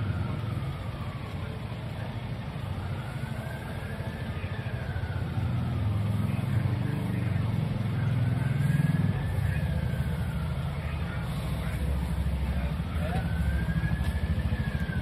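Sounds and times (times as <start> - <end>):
faint wailing siren: 0.0 - 15.0
vehicle engine idling: 0.0 - 15.0.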